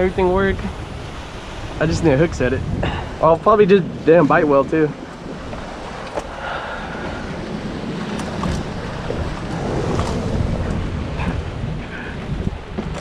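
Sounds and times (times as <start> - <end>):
waves breaking against rocks: 0.0 - 13.0
wind buffeting microphone: 0.0 - 13.0.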